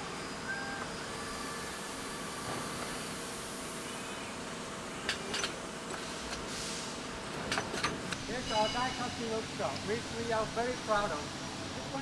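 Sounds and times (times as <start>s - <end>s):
factory machinery noise: 0.0s - 12.0s.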